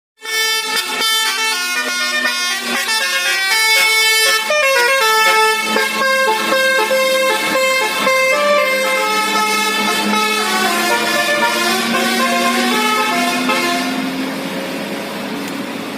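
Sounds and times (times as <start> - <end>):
multi-tone air horn playing a tune: 0.2 - 14.1.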